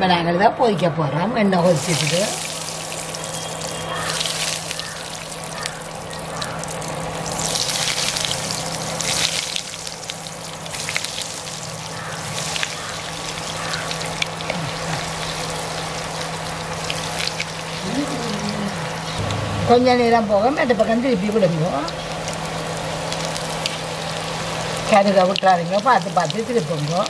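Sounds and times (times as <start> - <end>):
fish deep-frying in oil: 1.6 - 27.0.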